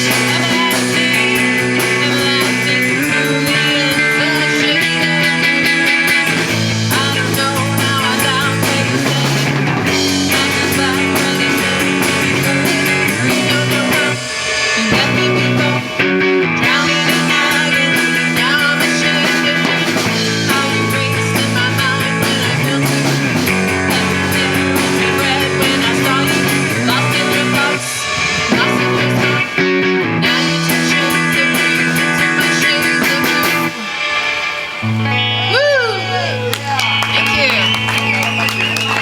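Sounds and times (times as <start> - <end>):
drum kit: 0.0 - 39.0
guitars: 0.0 - 39.0.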